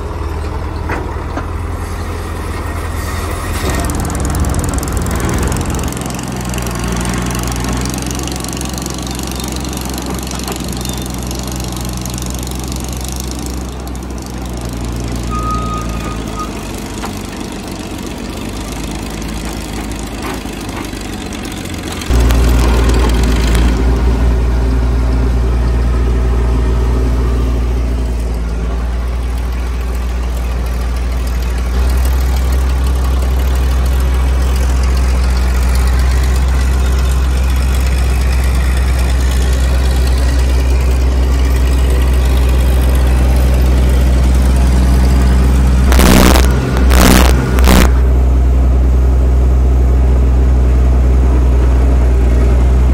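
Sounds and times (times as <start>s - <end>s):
bulldozer engine under load: 0.0s - 52.9s.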